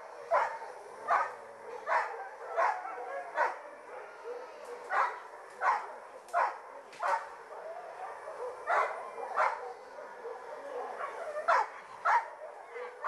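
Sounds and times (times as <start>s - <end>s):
dog barking: 0.2s - 13.0s.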